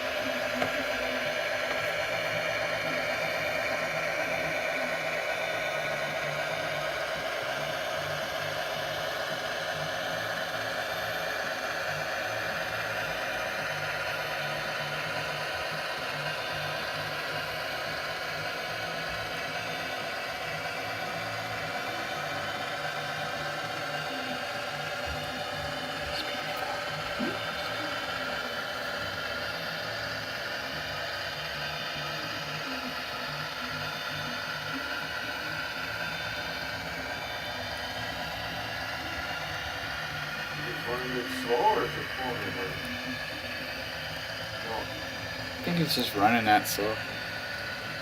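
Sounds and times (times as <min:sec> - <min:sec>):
diesel engine sound from speaker: 0:00.0 - 0:48.0
motor and gears whirring: 0:00.0 - 0:48.0.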